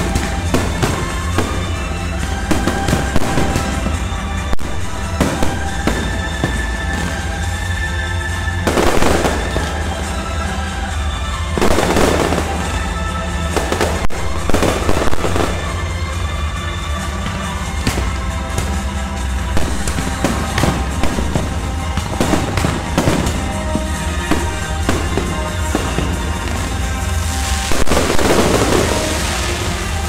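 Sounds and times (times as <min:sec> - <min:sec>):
fireworks bursting with bangs: 0:00.0 - 0:30.0
music playing: 0:00.0 - 0:30.0.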